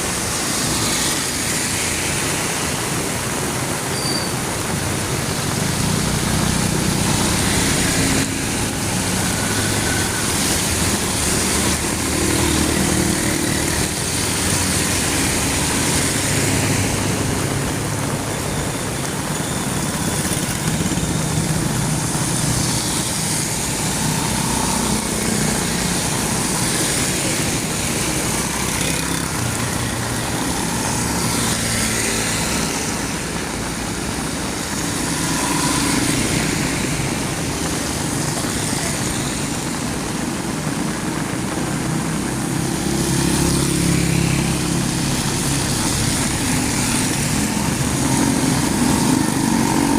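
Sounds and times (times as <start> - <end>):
heavy rain hissing: 0.0 - 49.9
street traffic engines: 0.0 - 49.9.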